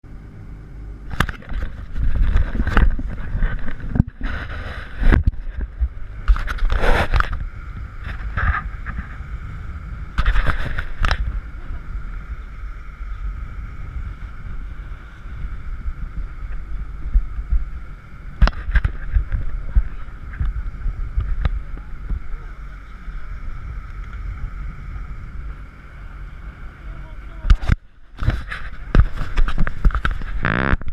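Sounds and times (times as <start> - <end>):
boat engine drone: 0.0 - 30.9
wind buffeting microphone: 1.0 - 30.9.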